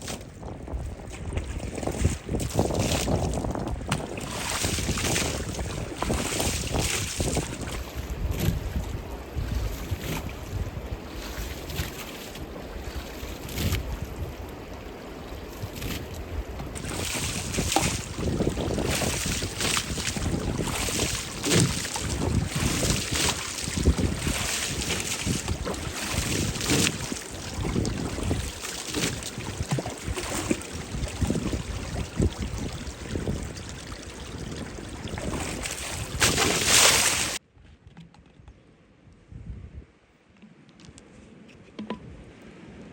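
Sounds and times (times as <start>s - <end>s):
wind rumbling on microphone: 0.0s - 40.2s.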